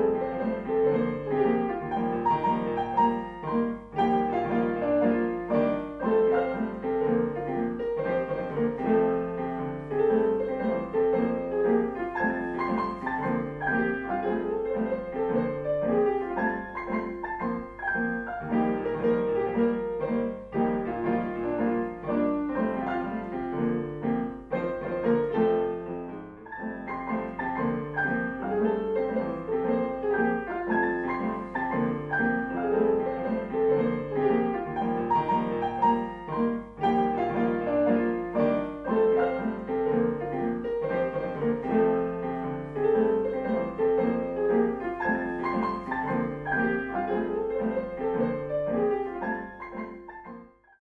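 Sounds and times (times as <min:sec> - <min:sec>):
piano music: 0:00.0 - 0:50.8.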